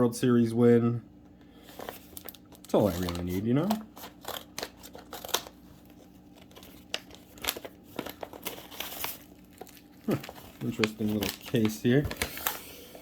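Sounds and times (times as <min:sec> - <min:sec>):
packaging crinkling: 0:01.6 - 0:13.0.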